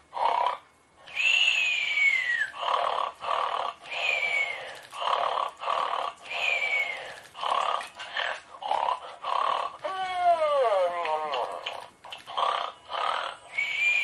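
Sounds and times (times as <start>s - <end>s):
cartoon snoring with whistle: 0.1s - 9.7s, 12.3s - 14.0s.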